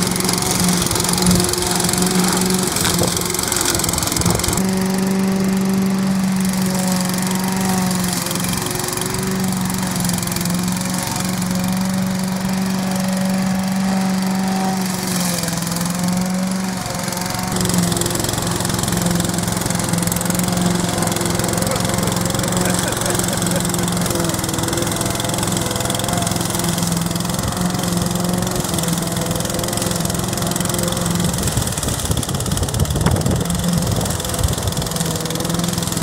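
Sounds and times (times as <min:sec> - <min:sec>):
lawn mower cutting grass: 0:00.0 - 0:36.0.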